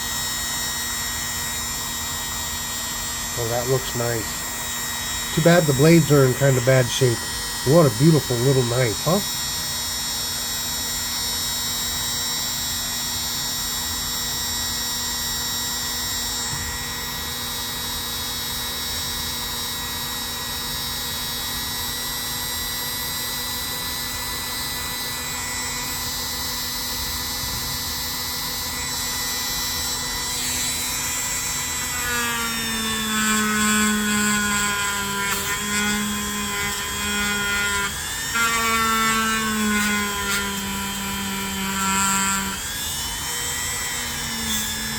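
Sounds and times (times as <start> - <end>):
electric polishing tool whine: 0.0 - 44.9.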